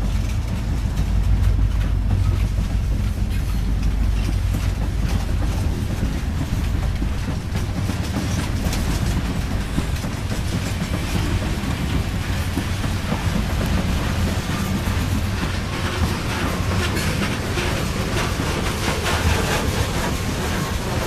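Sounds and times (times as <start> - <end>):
freight train wheels rumbling: 0.0 - 21.0
wheel clicks and clatters: 0.0 - 21.0.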